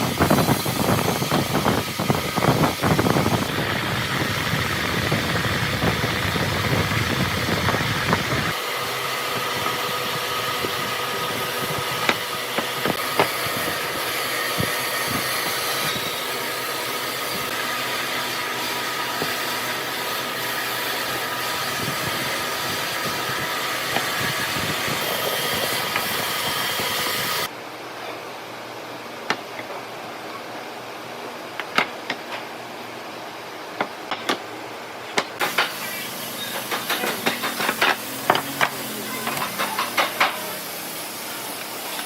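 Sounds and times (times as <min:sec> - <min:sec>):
power tool motor whining: 0:00.0 - 0:27.5, 0:35.4 - 0:42.0.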